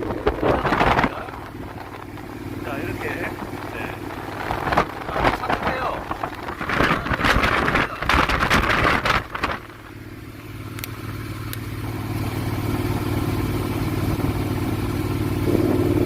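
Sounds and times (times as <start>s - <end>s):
motorcycle engine drone: 0.0s - 16.0s
wind buffeting microphone: 0.0s - 16.0s.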